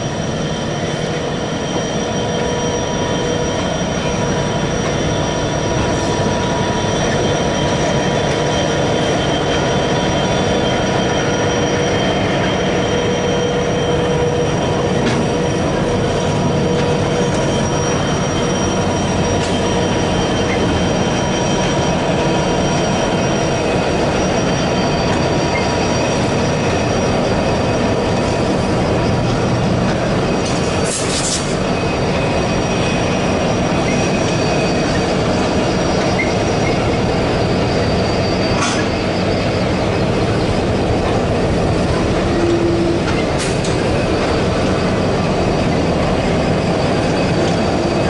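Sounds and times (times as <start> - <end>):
high-pitched wheel flange squeal: 0.0 - 48.0
locomotive engines rumbling: 0.0 - 48.0.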